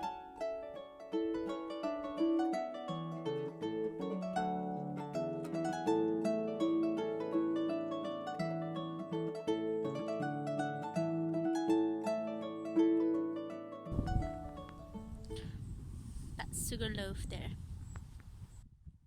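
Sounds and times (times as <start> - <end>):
solo harp playing: 0.0 - 16.0.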